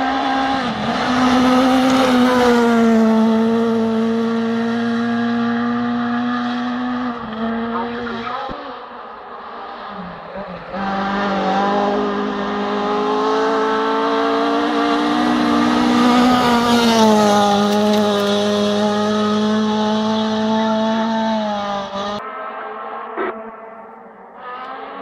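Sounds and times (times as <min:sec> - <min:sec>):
rally car engine passing: 0:00.0 - 0:25.0.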